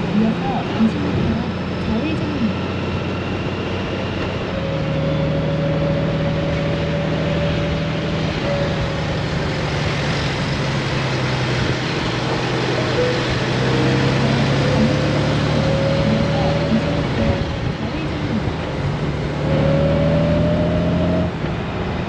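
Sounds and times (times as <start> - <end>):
motorcycle engine running: 0.0 - 21.6
wind and road noise: 0.0 - 22.0.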